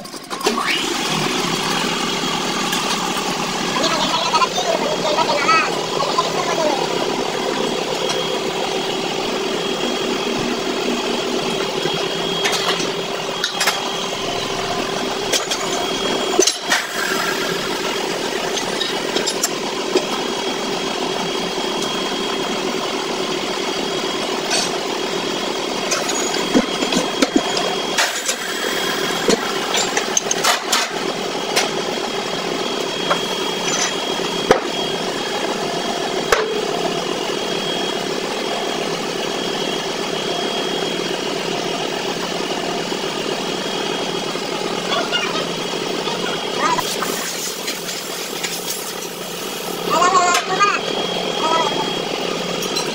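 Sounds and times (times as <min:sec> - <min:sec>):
machinery motor hum: 0:00.0 - 0:52.9
high whine: 0:00.4 - 0:52.9.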